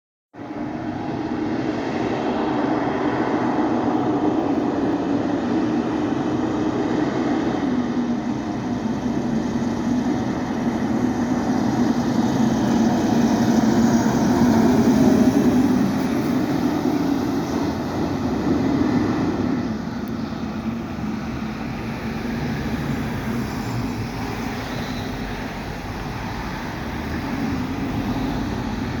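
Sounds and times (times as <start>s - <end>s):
road rumble: 0.3s - 29.0s
fire engine diesel engine: 0.4s - 29.0s.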